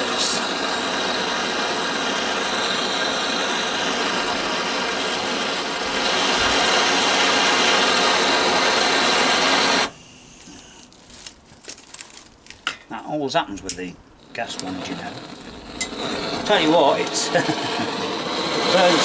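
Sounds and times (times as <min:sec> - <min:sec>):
gas blowlamp hissing: 0:00.0 - 0:11.0, 0:13.6 - 0:19.0.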